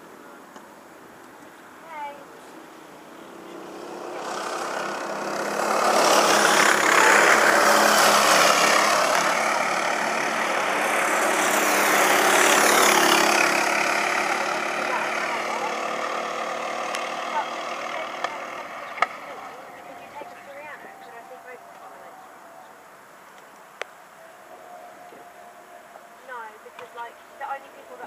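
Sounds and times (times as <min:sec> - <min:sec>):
go-kart engines revving: 0:01.9 - 0:28.0.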